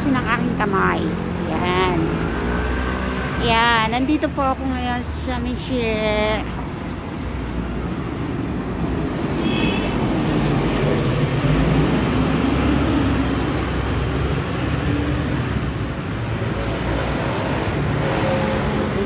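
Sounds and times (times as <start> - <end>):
cars driving past: 0.0 - 19.0.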